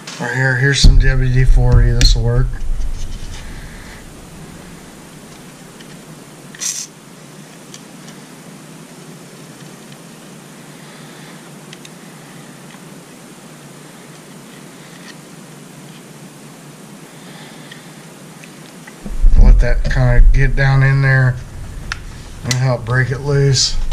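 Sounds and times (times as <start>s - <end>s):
low steady background hum: 0.2s - 23.9s.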